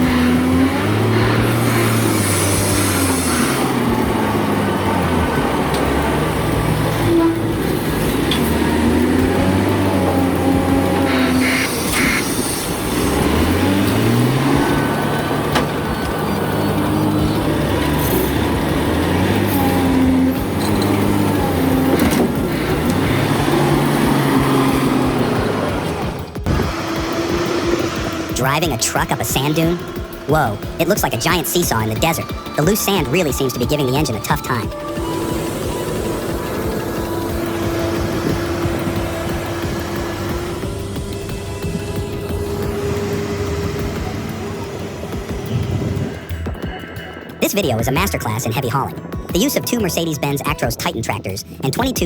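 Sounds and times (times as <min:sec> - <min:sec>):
drifting pitched tones: 0:00.0 - 0:52.0
heavy vehicle engine running: 0:00.0 - 0:52.0.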